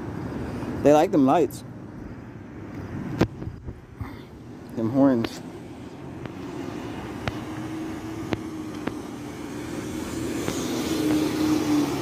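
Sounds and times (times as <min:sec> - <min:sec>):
police car engine hum: 0:00.0 - 0:12.0.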